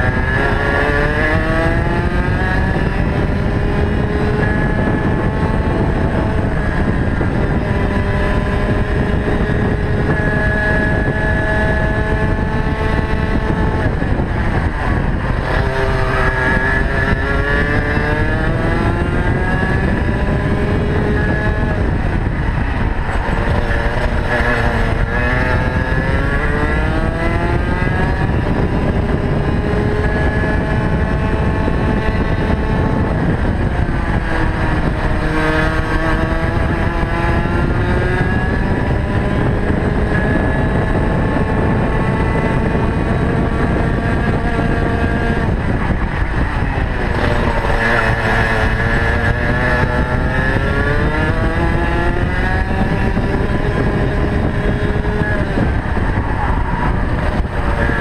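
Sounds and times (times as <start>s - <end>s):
kart engine at racing speed: 0.0s - 58.0s.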